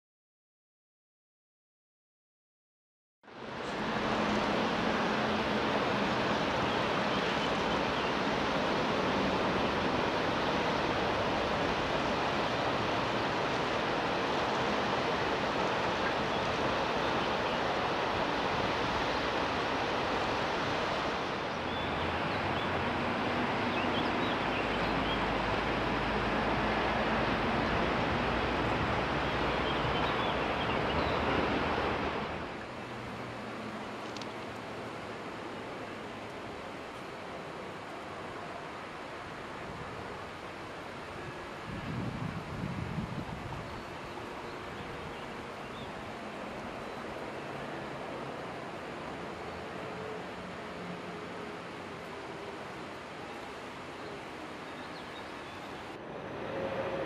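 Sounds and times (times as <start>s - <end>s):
flowing water rushing: 3.3s - 57.0s.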